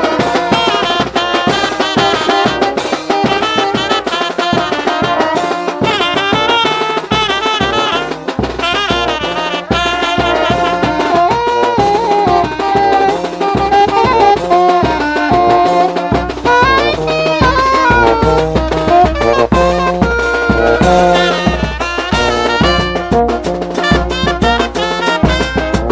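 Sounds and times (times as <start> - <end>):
brass instruments melody: 0.0 - 25.9
steady drum beat: 0.0 - 25.9.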